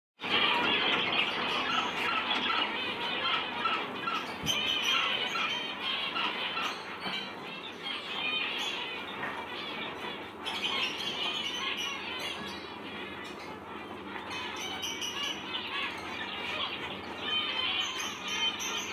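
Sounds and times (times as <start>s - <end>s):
finches chirping: 0.2s - 18.9s.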